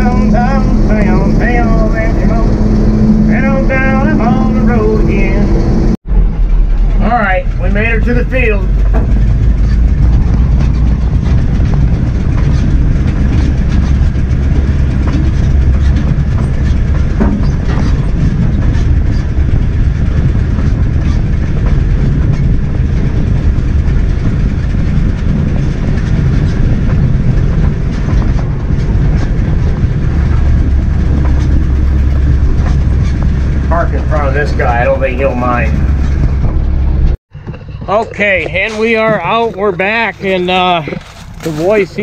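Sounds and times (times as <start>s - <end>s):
truck engine rumble: 0.0s - 42.0s
truck body rattling and knocking: 7.8s - 42.0s.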